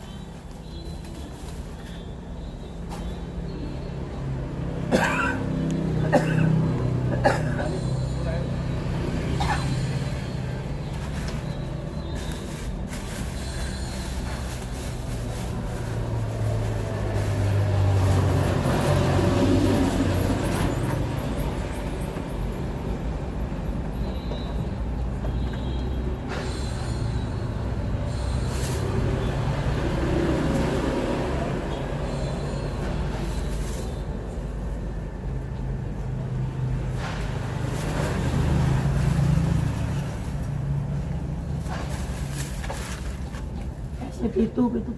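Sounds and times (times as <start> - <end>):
traffic passing close by: 0.0 - 44.9.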